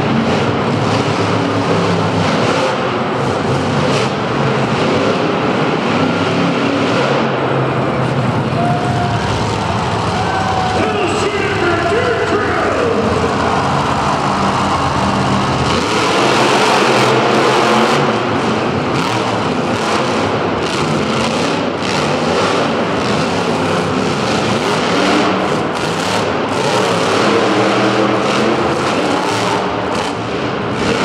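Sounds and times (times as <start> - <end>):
truck engines revving high: 0.0 - 31.0.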